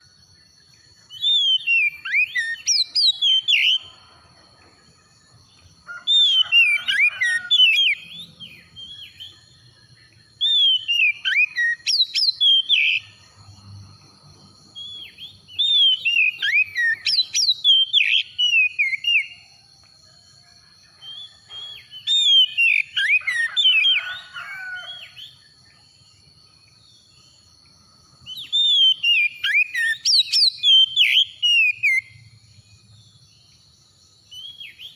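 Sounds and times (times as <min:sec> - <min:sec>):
bird singing whistled notes: 0:00.0 - 0:04.1, 0:05.3 - 0:27.5, 0:28.1 - 0:34.9.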